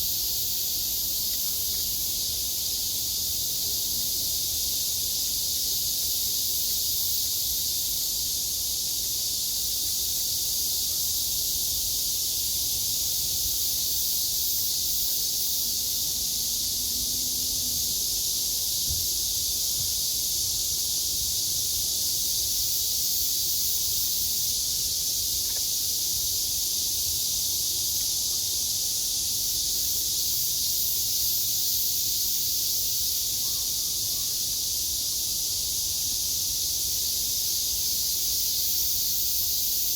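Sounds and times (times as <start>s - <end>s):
cicadas hissing: 0.0s - 39.9s.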